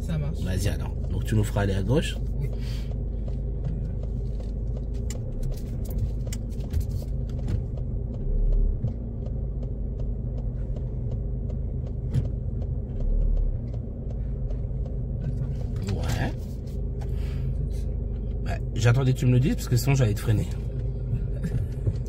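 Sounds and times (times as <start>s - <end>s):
car engine and road noise: 0.0s - 22.0s
low rumbles: 0.0s - 22.0s.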